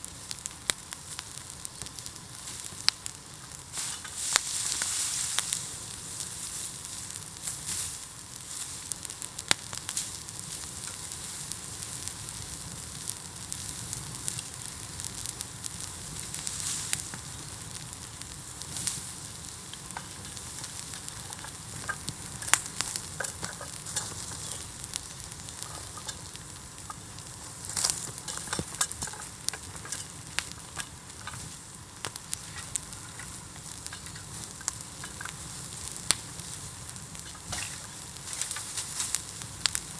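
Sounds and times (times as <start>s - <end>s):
bonfire crackling and hissing: 0.0s - 39.9s
fire popping sharply: 0.0s - 39.9s.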